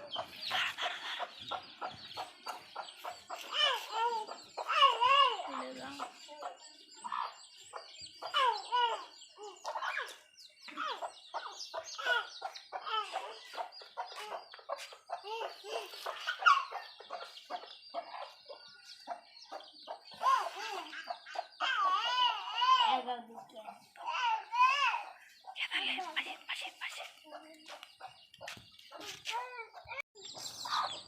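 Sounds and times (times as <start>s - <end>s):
chickens clucking: 0.0s - 31.0s
chicks peeping: 0.0s - 31.0s.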